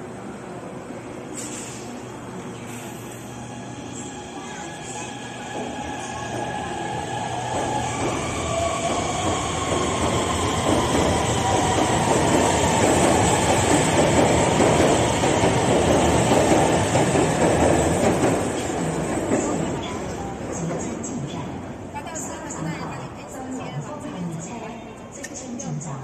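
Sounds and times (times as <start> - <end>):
train wheels rumbling on track: 0.0 - 21.9.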